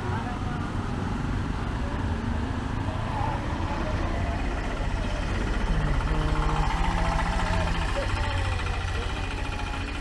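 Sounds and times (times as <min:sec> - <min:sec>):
auto-rickshaw engine running: 0:00.0 - 0:10.0
low street rumble: 0:00.0 - 0:10.0.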